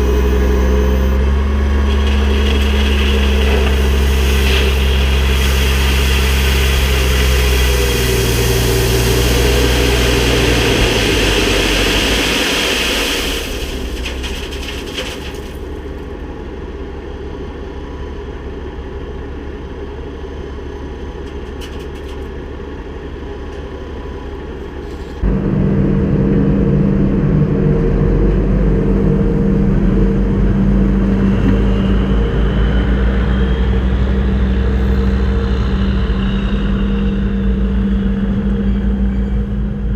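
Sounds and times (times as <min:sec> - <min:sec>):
diesel engine running loudly: 0:00.0 - 0:39.9.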